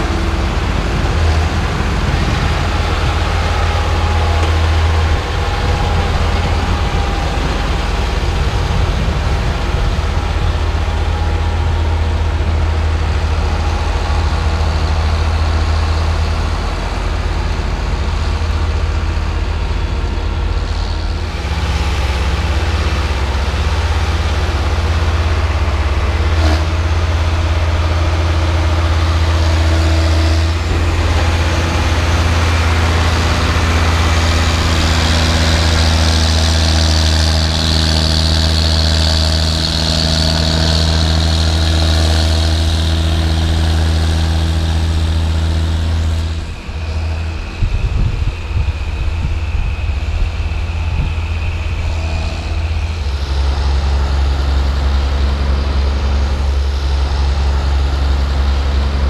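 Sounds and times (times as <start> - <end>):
high whine: 0.0 - 59.0
tractor diesel engines running: 0.0 - 59.0.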